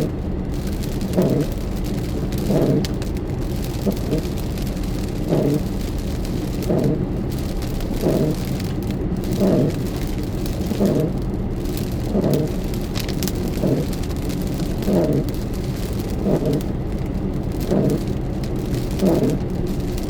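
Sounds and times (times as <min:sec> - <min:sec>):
road noise inside car: 0:00.0 - 0:20.0
steady rain: 0:00.0 - 0:20.0
windshield wipers sweeping: 0:00.0 - 0:20.0.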